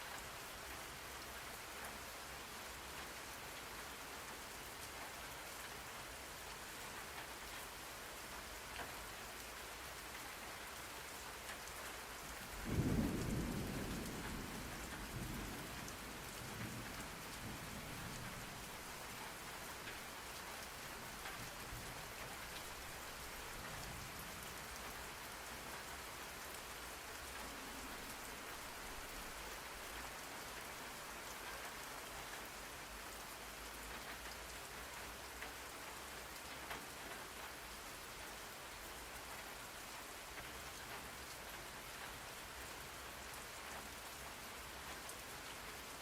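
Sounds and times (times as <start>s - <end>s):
raindrops ticking on surface: 0.0s - 46.0s
steady rain falling: 0.0s - 46.0s.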